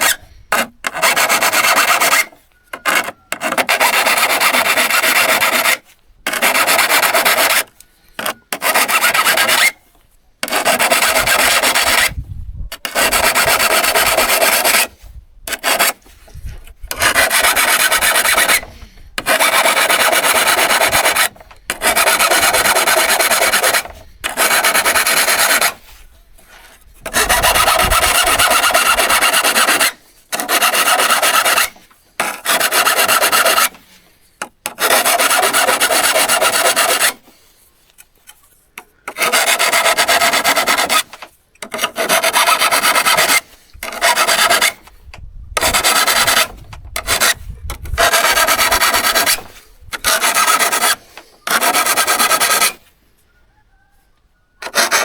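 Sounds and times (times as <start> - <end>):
abrasive scraping on a hand saw: 0.0 - 53.0, 54.6 - 55.0.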